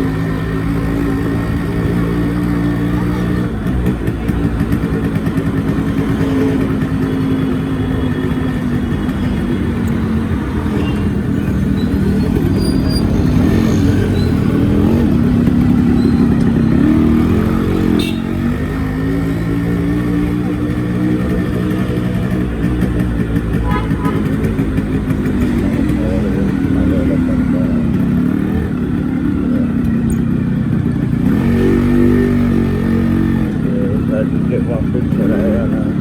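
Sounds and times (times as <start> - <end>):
two-stroke motorcycle engine: 0.0 - 36.0.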